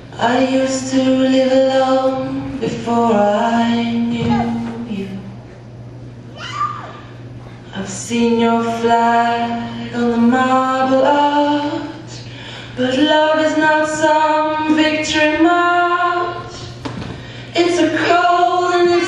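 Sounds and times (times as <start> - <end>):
person singing slow song: 0.0 - 5.6, 7.6 - 16.8, 17.4 - 19.0
steady low hum: 0.0 - 19.0.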